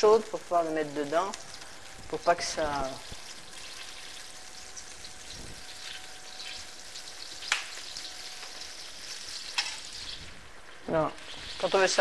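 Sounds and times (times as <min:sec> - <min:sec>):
oil sizzling in a pot: 0:00.0 - 0:12.0.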